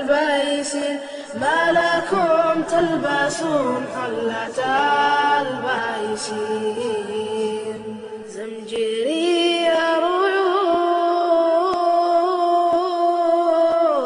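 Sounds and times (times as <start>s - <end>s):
unaccompanied vocal chanting: 0.0s - 14.0s.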